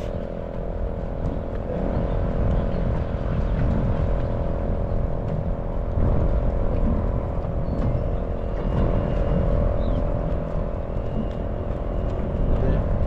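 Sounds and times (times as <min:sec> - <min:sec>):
mechanical hum with whine: 0:00.0 - 0:13.0
wind rumble on microphone: 0:00.0 - 0:13.0.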